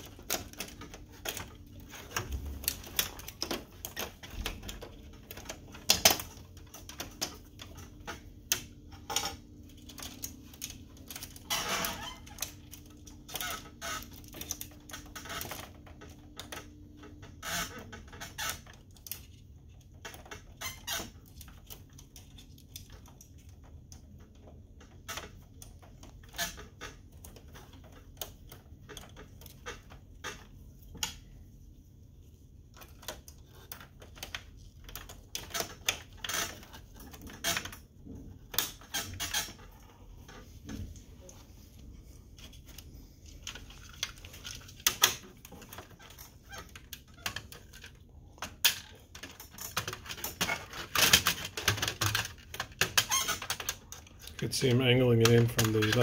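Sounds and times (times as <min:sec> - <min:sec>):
plastic printer parts clicking: 0:00.0 - 0:31.3, 0:32.7 - 0:41.4, 0:42.4 - 0:56.0.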